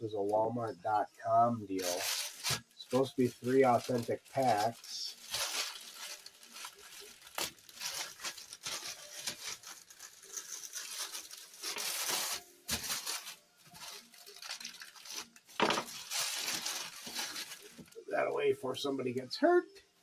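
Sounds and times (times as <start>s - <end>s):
packaging tearing and crinkling: 1.8s - 18.0s.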